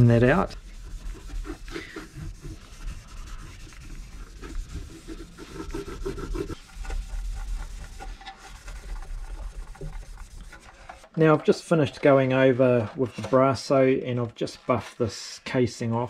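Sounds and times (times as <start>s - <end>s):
cloth scrubbing plastic case: 0.0s - 13.7s.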